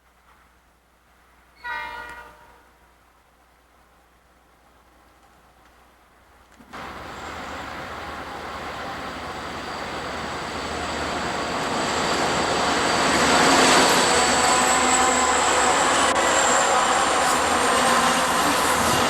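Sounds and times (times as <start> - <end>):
freight train rumble: 0.1 - 19.0.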